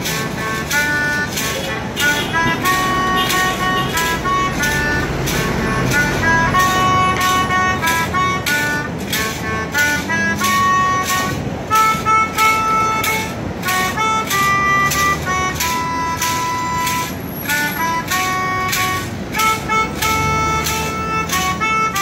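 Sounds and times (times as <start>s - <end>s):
melodica melody: 0.0s - 22.0s
sharp percussive strokes: 0.0s - 22.0s.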